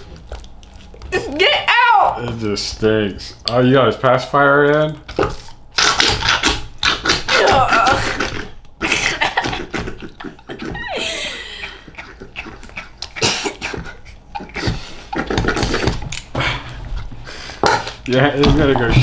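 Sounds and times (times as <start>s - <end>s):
wet slime squelching and sputtering: 0.0s - 19.0s.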